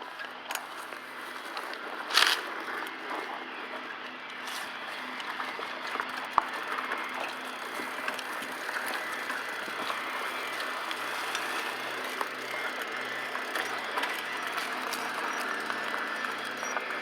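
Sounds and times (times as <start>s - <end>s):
bicycle tyre and wind noise: 0.0s - 17.0s.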